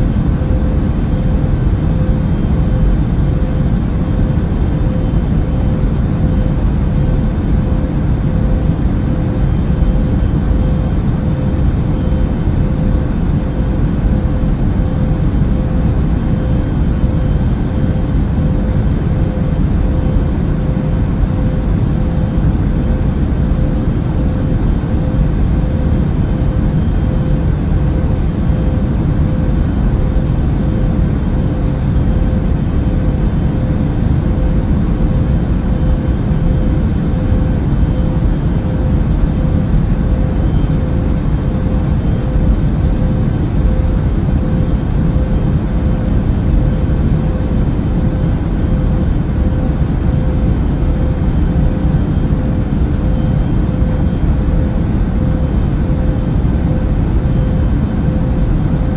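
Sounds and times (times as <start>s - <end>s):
airliner cabin drone: 0.0s - 58.9s
faint steady hum: 0.0s - 58.9s.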